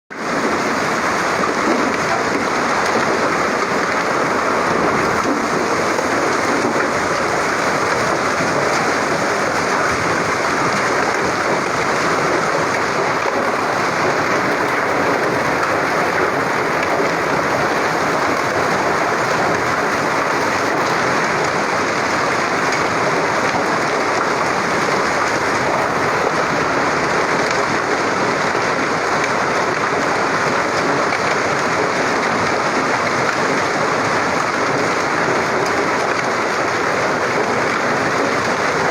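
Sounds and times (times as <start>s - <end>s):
heavy rain and hail falling: 0.1s - 38.9s.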